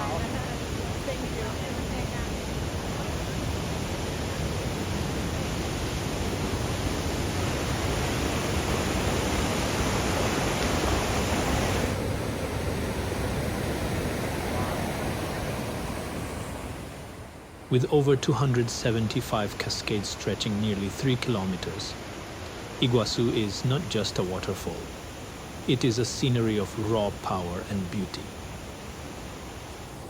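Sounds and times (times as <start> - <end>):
large waterfall roaring: 0.0 - 30.0.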